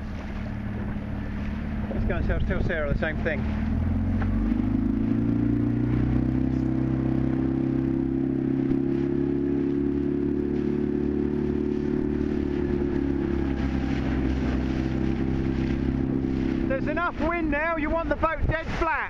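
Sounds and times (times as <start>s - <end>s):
motorboat engine running: 0.0s - 19.0s.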